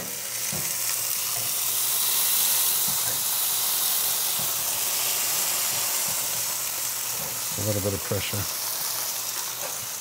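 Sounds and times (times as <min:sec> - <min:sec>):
mushrooms sizzling in skillet: 0:00.0 - 0:10.0.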